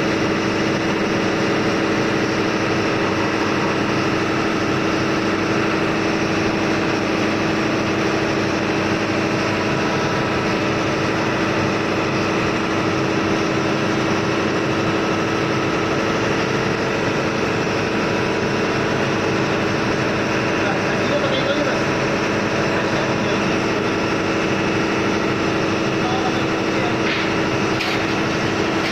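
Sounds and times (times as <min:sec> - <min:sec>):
diesel machinery droning: 0:00.0 - 0:28.9.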